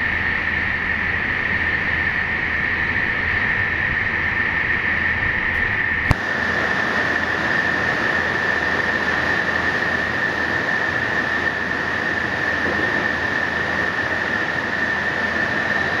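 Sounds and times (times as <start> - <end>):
factory machine noise: 0.0 - 16.0
high machine whine: 0.0 - 16.0.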